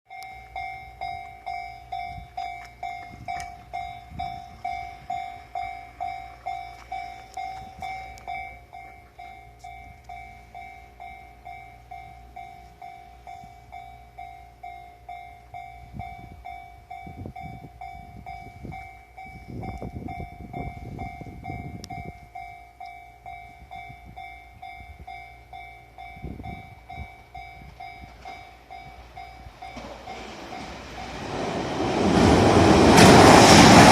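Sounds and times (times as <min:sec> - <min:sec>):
level-crossing warning bell ringing: 0:00.1 - 0:32.3.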